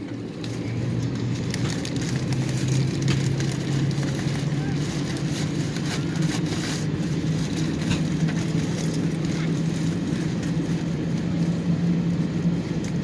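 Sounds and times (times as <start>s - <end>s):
cabin air-conditioning rush: 0.0s - 13.0s.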